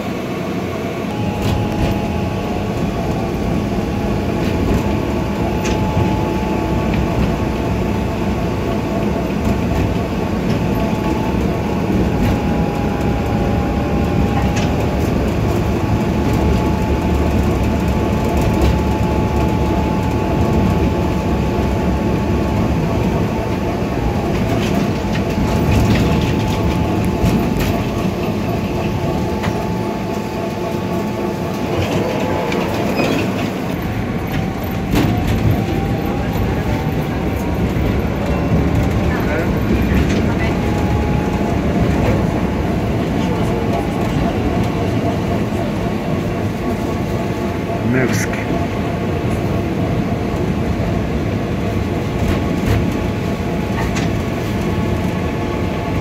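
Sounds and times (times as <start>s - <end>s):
high whine: 0.0s - 56.0s
tram wheels rumbling on rails: 0.0s - 56.0s.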